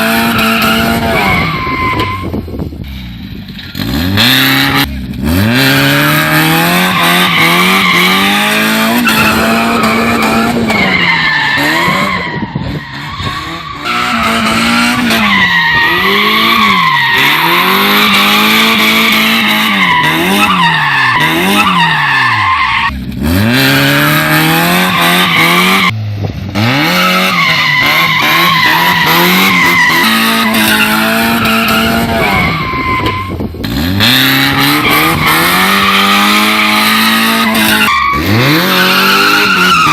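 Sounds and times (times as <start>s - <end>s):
tire squeals: 0.0s - 2.7s, 6.2s - 23.0s, 24.1s - 26.0s, 26.6s - 39.9s
race car engine revving: 2.8s - 39.9s.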